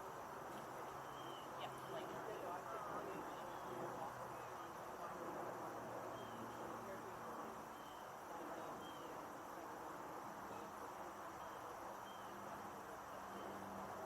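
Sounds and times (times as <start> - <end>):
brook babbling: 0.0 - 14.0.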